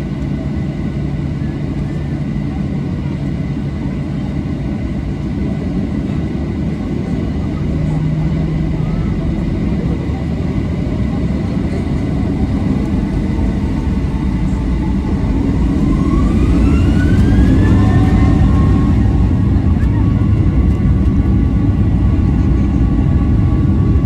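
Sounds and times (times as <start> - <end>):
jet engines rumbling and whining: 0.0 - 24.0.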